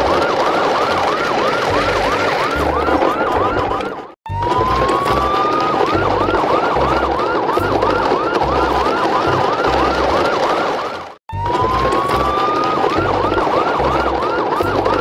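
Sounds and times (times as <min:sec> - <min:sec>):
electronic siren wailing and yelping: 0:00.0 - 0:15.0.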